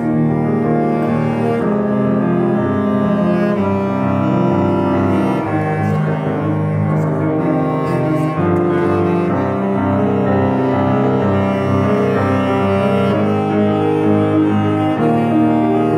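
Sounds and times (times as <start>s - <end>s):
bass clarinet melody: 0.0s - 15.9s
grand piano: 0.0s - 15.9s.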